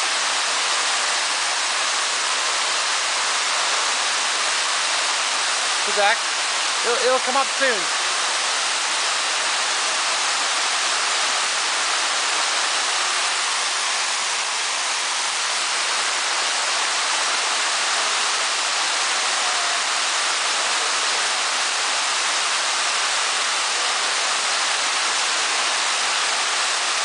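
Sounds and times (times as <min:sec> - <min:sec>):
water fountain splashing: 0:00.0 - 0:27.0.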